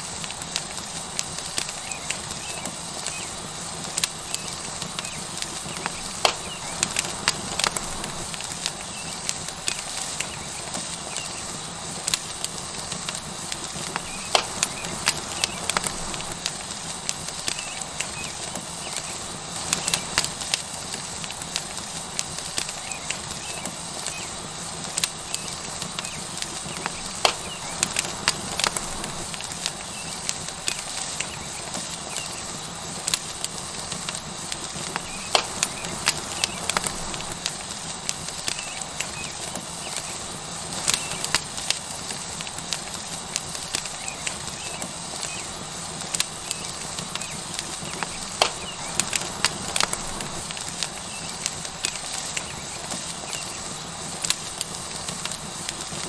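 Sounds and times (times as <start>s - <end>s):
burning wood popping and crackling: 0.0s - 56.0s
steak sizzling: 0.0s - 56.0s.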